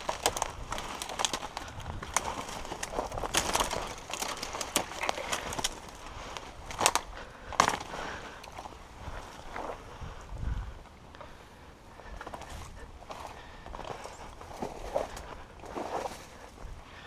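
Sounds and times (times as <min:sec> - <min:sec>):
footsteps in scrub: 0:00.0 - 0:09.9, 0:12.2 - 0:16.7
brush and twigs crackling: 0:00.0 - 0:17.0.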